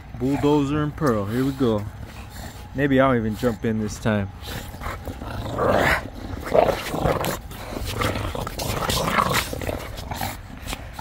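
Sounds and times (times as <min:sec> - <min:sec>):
dogs growling in play: 0:00.0 - 0:11.0.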